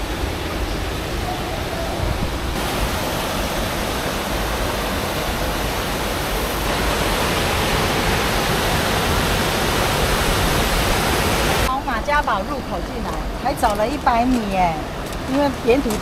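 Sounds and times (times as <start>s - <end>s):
fast-flowing creek: 0.0s - 16.0s.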